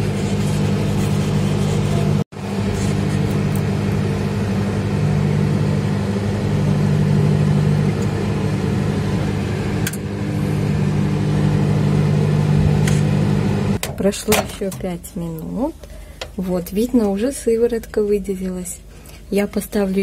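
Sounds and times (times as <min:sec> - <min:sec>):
microwave oven humming: 0:00.0 - 0:17.8.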